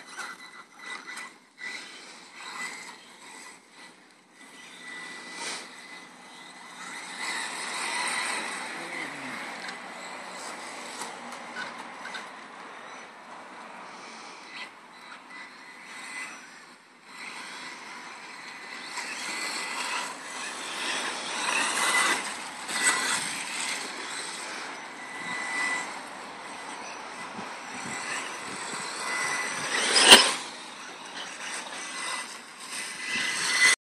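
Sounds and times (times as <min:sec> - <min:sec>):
rc car motor whine: 0:00.0 - 0:33.8.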